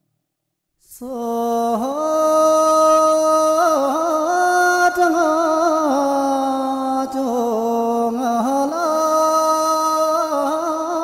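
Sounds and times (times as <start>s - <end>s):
person singing slow melody: 0.8s - 11.0s.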